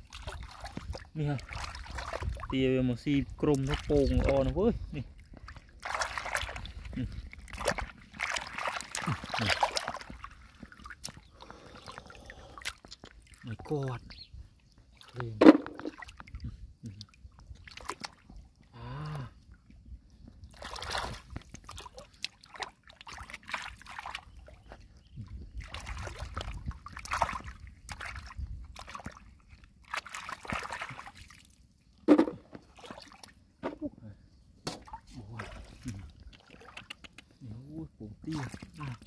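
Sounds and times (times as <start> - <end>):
shallow water sloshing and splashing: 0.0 - 18.8, 19.4 - 37.1, 38.2 - 39.0.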